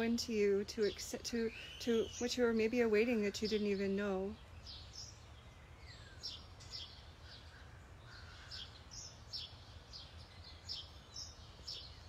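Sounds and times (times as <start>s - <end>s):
songbirds chirping faintly: 0.0s - 12.0s.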